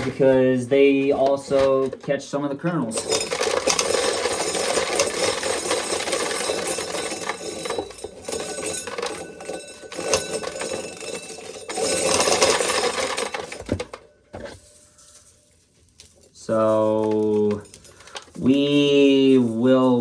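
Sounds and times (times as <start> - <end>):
corn sheller clattering: 0.0 - 20.0
kernels rattling: 0.0 - 20.0.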